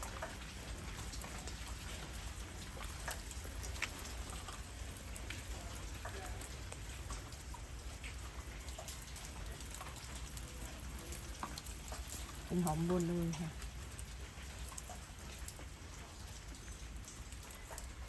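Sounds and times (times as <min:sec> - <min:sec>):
light drizzling rain: 0:00.0 - 0:18.0
raindrops ticking: 0:00.0 - 0:18.0.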